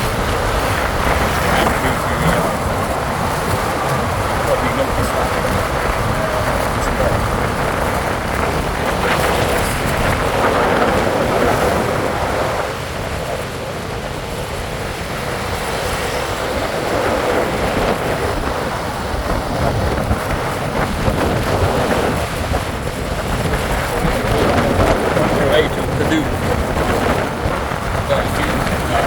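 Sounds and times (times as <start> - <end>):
road and vehicle noise: 0.0 - 29.0
wind over microphone: 0.0 - 29.0.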